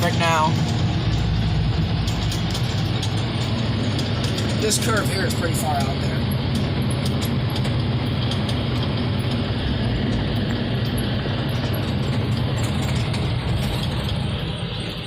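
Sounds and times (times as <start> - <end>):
road and wind noise: 0.0 - 15.0
truck engine running: 0.0 - 15.0.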